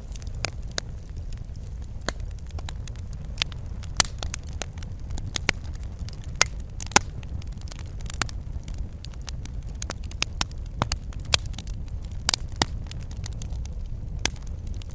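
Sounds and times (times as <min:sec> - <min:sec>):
low rumble of flames: 0:00.0 - 0:14.9
wood fire crackling and popping: 0:00.0 - 0:14.9.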